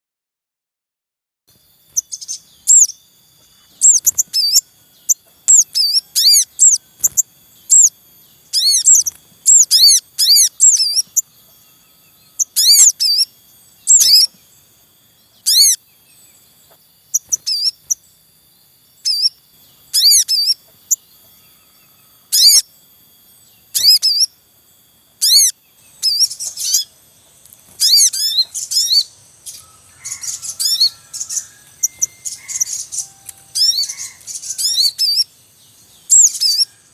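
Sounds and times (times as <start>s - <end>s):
birds chirping in sharp bursts: 1.5s - 36.9s.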